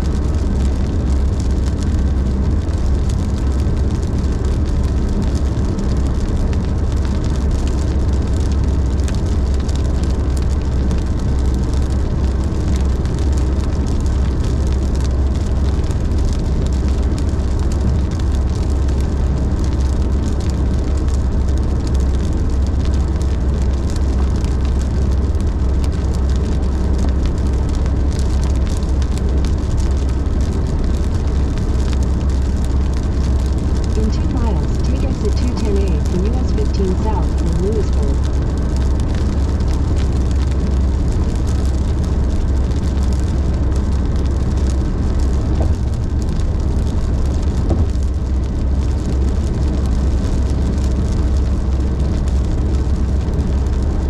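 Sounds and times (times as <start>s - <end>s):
hiss of spray and rain: 0.0s - 36.4s, 37.4s - 54.0s
tyres rumbling on wet road: 0.0s - 54.0s.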